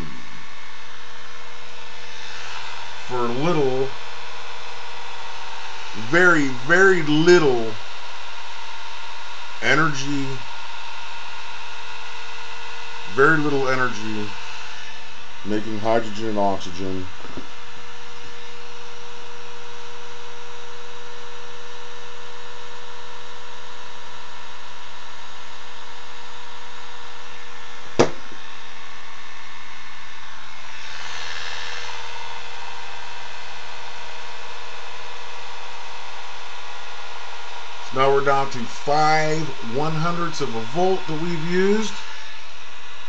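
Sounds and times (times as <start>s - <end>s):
electric motor hum and whine: 0.0s - 43.0s.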